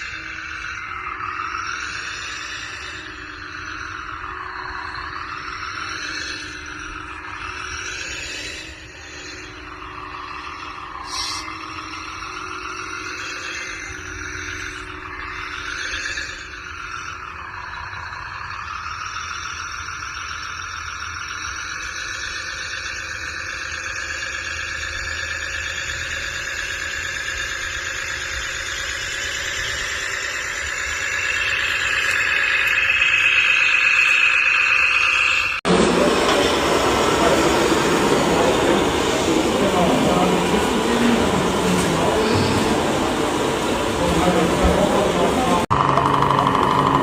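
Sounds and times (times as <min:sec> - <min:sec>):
rc car motor whine: 0:00.0 - 0:47.0.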